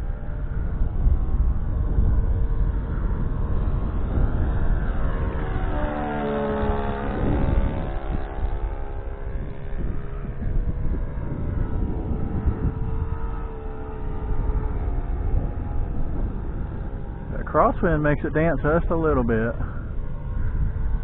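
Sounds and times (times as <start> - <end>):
model airplane engine passing: 0.0 - 21.0
wind rumbling on microphone: 0.0 - 21.0.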